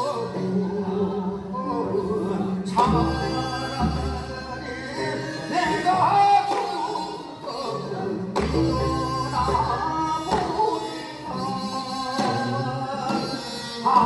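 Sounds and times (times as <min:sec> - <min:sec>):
folk song with ornamented voice: 0:00.0 - 0:14.0.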